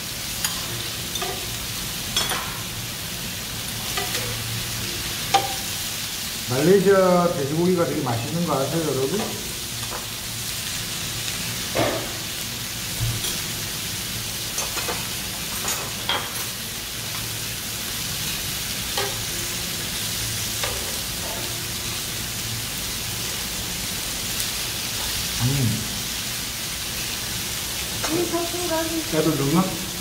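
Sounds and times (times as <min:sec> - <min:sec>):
meat sizzling on grill pan: 0:00.0 - 0:30.0.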